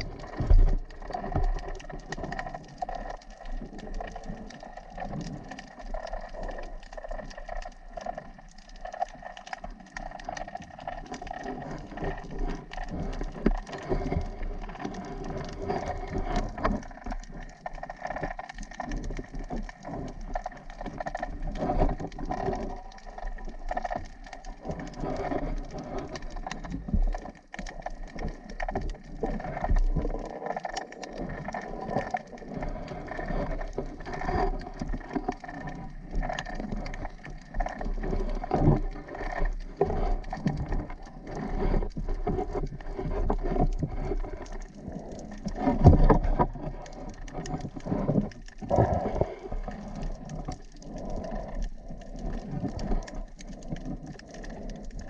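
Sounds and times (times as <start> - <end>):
water crackling and pattering: 0.0 - 55.0.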